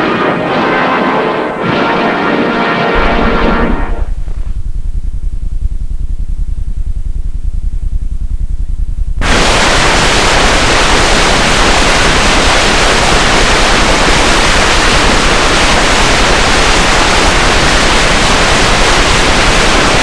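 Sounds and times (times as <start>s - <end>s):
hissing static: 2.9s - 20.0s.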